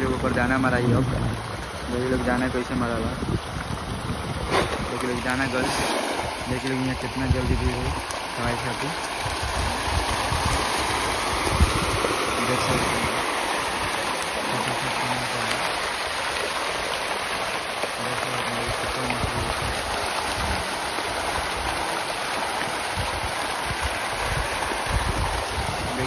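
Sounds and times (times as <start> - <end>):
fish thrashing and splashing: 3.1 - 26.0.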